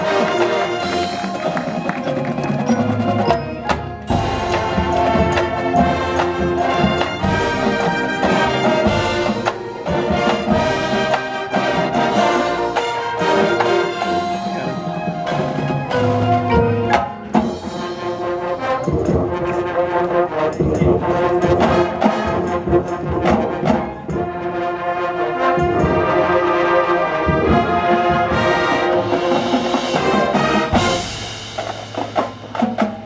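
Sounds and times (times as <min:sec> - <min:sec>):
sharp percussion hits: 0:00.0 - 0:24.7, 0:25.4 - 0:33.0
brass chords and melody: 0:00.0 - 0:33.0.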